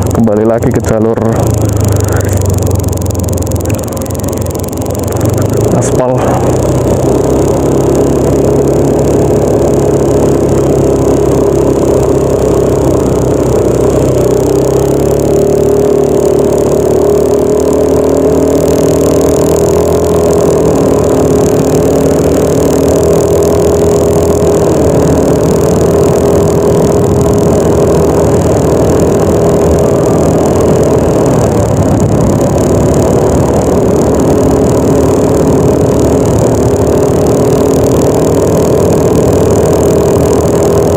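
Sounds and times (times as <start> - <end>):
scooter engine running: 0.0 - 40.9.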